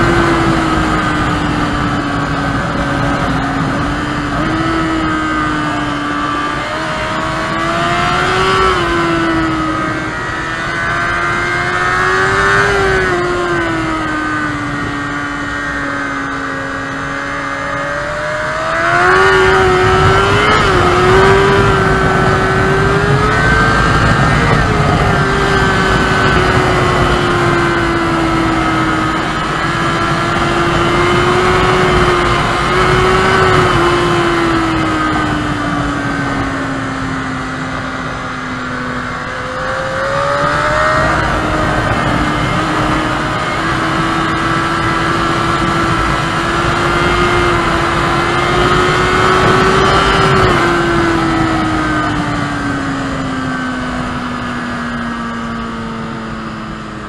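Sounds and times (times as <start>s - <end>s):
motorcycle engine revving: 0.0s - 57.0s
wind on microphone: 0.0s - 57.0s.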